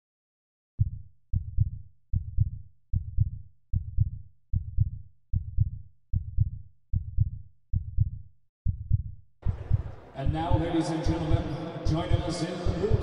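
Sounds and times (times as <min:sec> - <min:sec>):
heartbeat thumps: 0:00.8 - 0:13.0.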